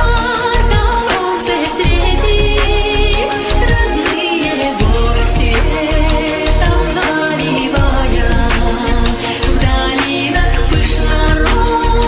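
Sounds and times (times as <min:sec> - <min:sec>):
instrumental music with deep bass: 0:00.0 - 0:12.0.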